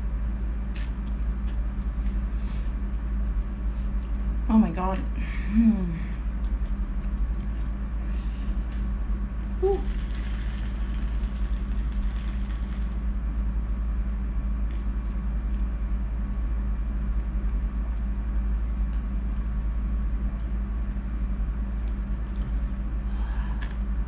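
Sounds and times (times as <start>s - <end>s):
low rumble with hum: 0.0s - 24.0s.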